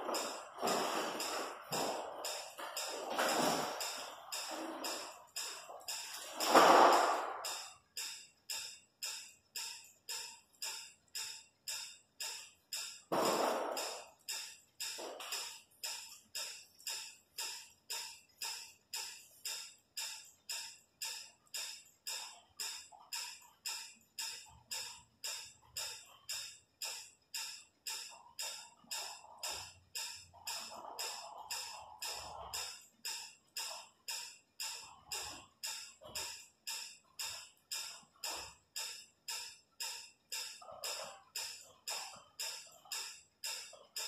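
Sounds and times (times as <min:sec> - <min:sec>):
music with pulsing beat: 0:00.0 - 0:44.0.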